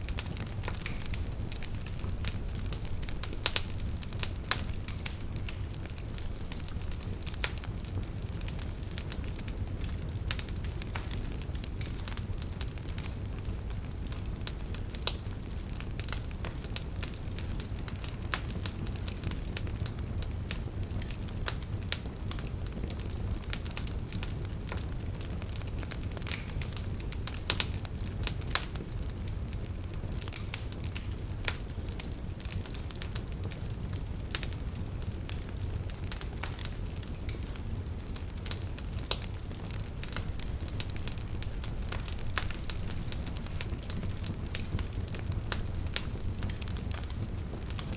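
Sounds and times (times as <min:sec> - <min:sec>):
fire pops and crackles: 0:00.0 - 0:47.9
wood fire burning: 0:00.0 - 0:47.9.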